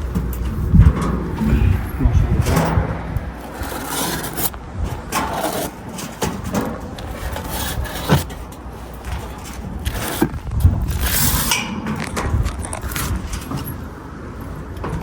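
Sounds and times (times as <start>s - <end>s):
hard objects clinking and scraping: 0.0s - 13.9s.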